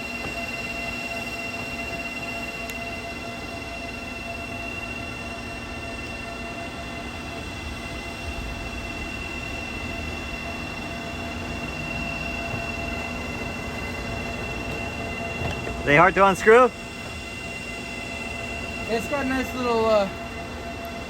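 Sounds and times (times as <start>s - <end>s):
mechanical hum and whine: 0.0s - 21.0s.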